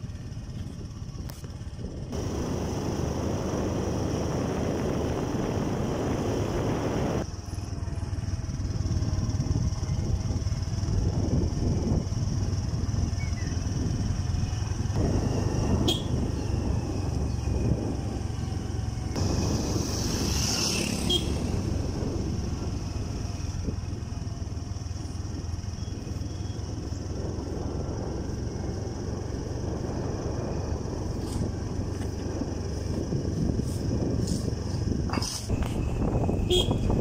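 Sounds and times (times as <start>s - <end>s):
motorcycle engine running: 0.0s - 37.0s
road noise: 0.0s - 37.0s.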